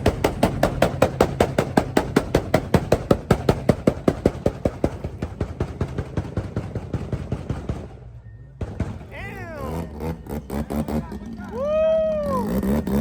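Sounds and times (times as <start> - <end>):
engine knocking sharply: 0.0 - 11.3.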